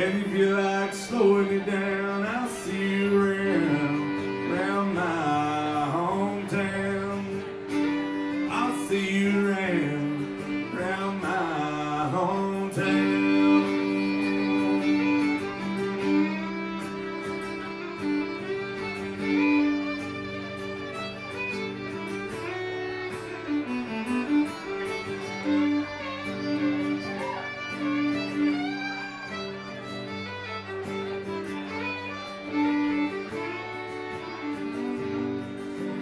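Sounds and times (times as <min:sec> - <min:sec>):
fiddle melody: 0:00.0 - 0:36.0
strummed acoustic guitar: 0:00.0 - 0:36.0.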